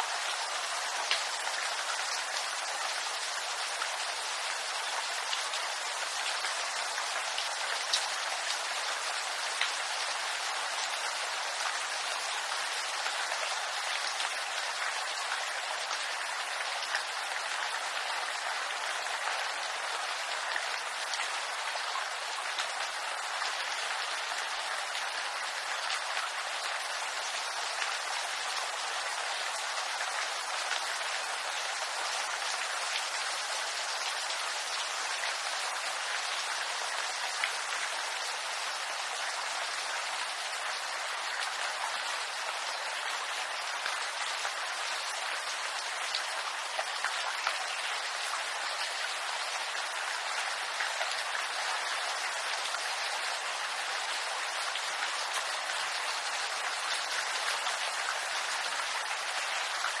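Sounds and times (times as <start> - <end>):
rain hissing on bamboo: 0.0 - 60.0.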